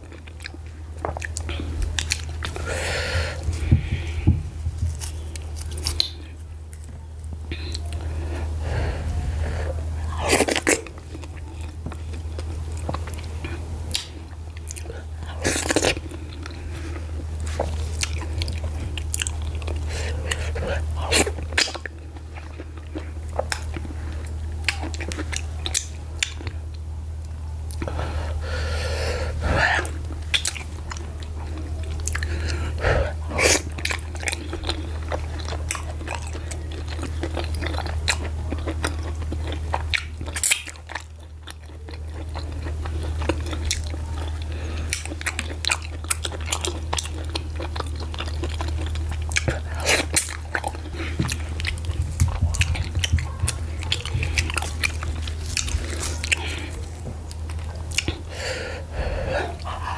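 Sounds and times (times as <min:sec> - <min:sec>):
wet chewing and lip-smacking: 0:00.0 - 0:02.7, 0:04.9 - 0:08.4, 0:10.0 - 0:28.0, 0:29.4 - 0:59.9
steady low hum: 0:00.0 - 0:59.9.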